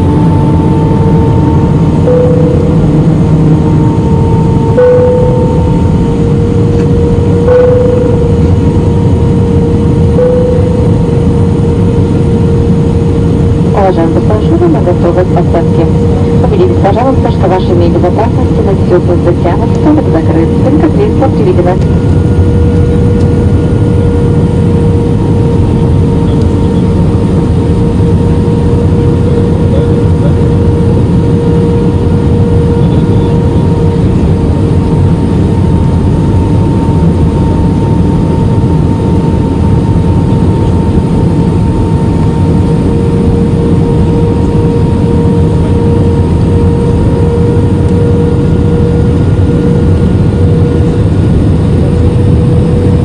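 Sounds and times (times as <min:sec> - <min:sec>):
airliner cabin engine rumble: 0:00.0 - 0:53.0
constant hum tone: 0:00.0 - 0:53.0.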